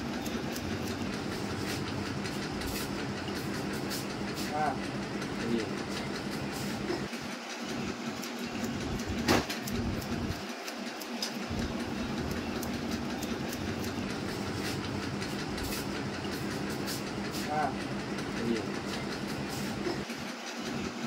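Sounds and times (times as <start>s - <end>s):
steady low hum: 0.0s - 10.5s, 11.4s - 21.0s
shears snipping hair: 0.0s - 20.3s.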